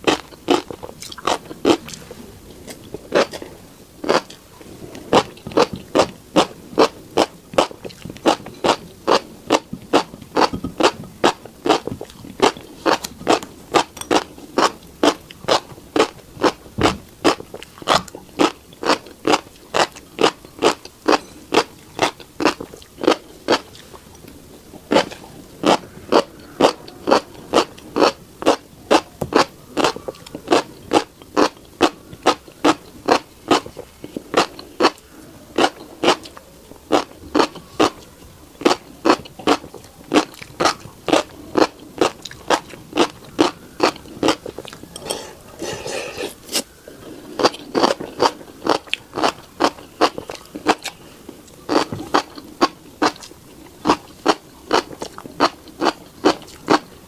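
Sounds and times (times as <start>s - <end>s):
chewing crunchy seeds: 0.0s - 57.0s.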